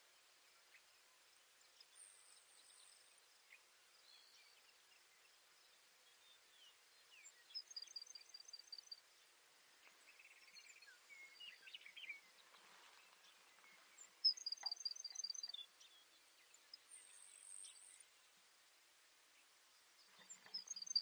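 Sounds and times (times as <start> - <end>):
soft bird chirps: 0.0 - 21.0.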